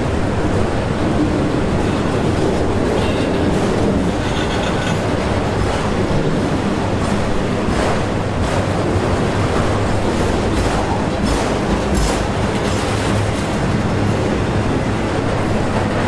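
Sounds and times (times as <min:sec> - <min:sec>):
steel wheels rolling on rail: 0:00.0 - 0:16.0.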